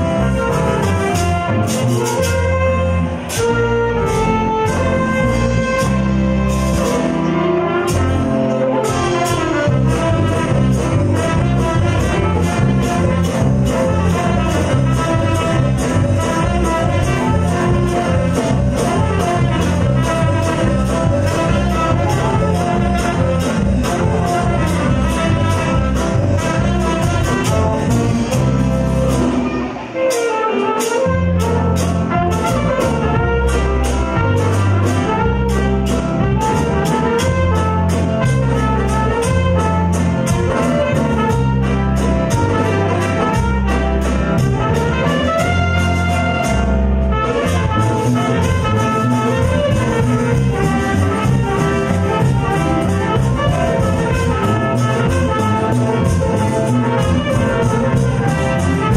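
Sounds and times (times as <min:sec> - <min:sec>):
drum kit beat: 0:00.0 - 0:58.9
horn section: 0:00.0 - 0:58.9
live band playing upbeat tune: 0:00.0 - 0:58.9.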